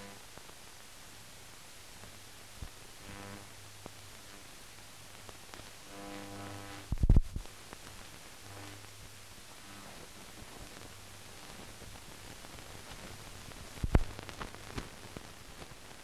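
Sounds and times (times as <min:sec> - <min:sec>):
faint humming tones: 0:00.0 - 0:16.0
film hiss and hum: 0:00.0 - 0:16.0.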